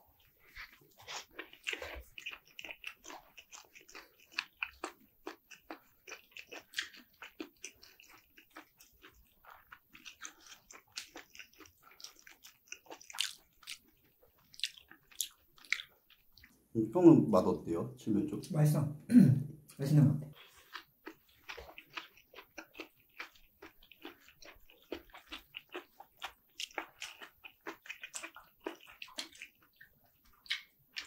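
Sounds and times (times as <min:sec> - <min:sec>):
person chewing with wet smacks: 0:00.2 - 0:16.6, 0:20.3 - 0:31.0.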